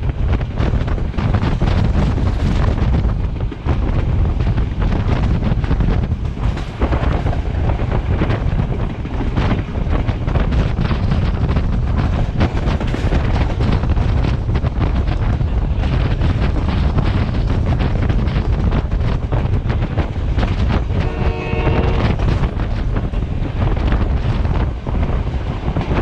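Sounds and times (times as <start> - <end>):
train rumbling on track: 0.0 - 26.0
wind buffeting microphone: 0.0 - 26.0.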